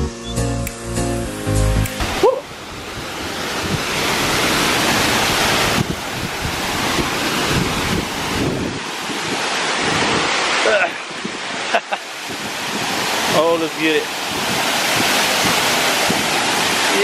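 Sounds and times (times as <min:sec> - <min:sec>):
waterfall pouring into pool: 0:02.0 - 0:17.0
wind on microphone: 0:02.0 - 0:17.0.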